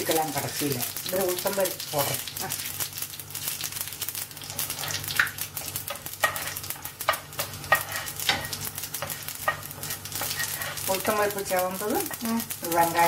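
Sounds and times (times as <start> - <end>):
seeds sizzling and crackling in oil: 0.0 - 13.0.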